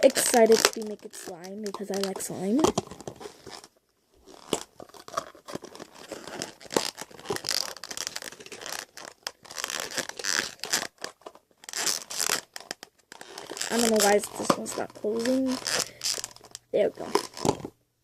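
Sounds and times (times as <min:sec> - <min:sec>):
crinkling plastic: 0:00.0 - 0:17.8.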